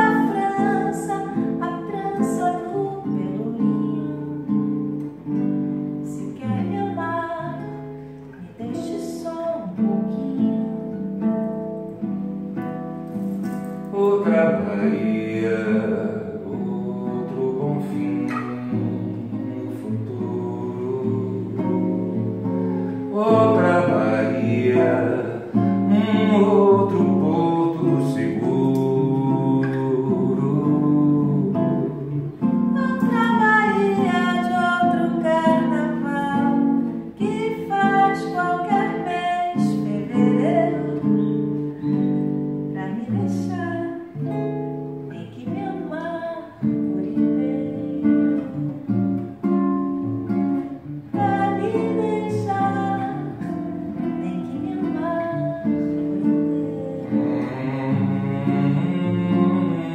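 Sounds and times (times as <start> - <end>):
man and woman singing: 0.0 - 4.9, 6.0 - 11.1, 13.2 - 42.1, 42.7 - 49.2, 51.0 - 59.9
acoustic guitar: 0.0 - 59.9.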